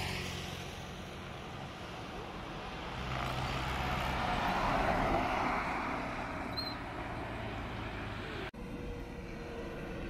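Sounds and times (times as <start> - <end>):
bus engine hum passing: 0.0 - 10.0
tyre noise on road: 0.0 - 10.0.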